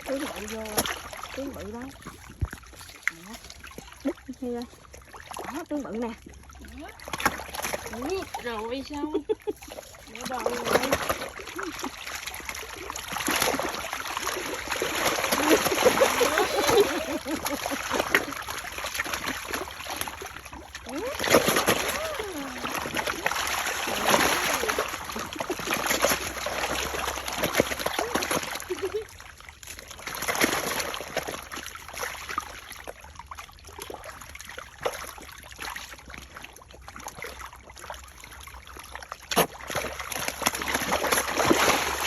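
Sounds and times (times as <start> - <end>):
sharp water splash: 0.0 - 5.6, 6.3 - 8.8, 9.6 - 37.9, 38.9 - 42.0
water splashing and trickling: 0.0 - 42.0.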